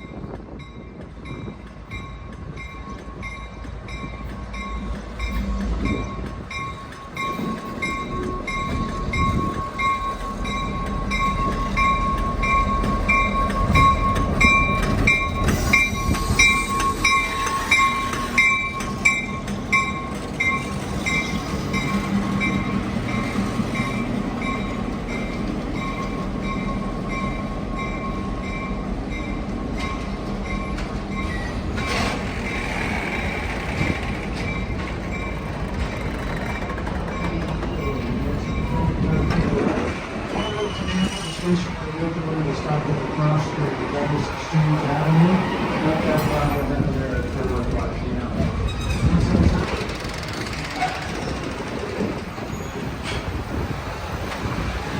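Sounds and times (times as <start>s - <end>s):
train rumbling by: 0.0s - 54.9s.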